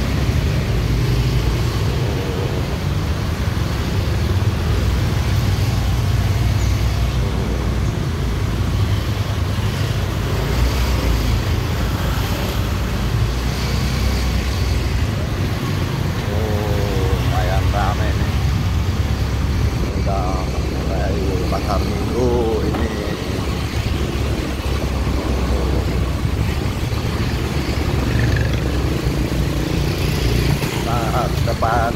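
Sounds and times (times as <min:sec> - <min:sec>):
low traffic rumble: 0:00.0 - 0:31.9
motor scooters passing: 0:00.0 - 0:31.9.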